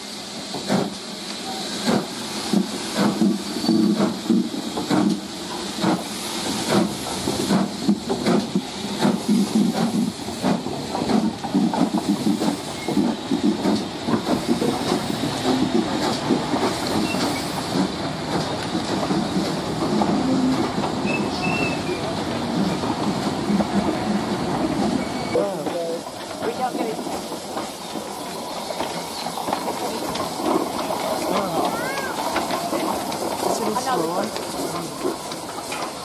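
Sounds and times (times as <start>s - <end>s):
steam hissing: 0.0s - 36.0s
steam locomotive exhaust beats: 0.0s - 36.0s
train coaches rumbling on rails: 0.0s - 36.0s
wheels clacking: 5.8s - 36.0s.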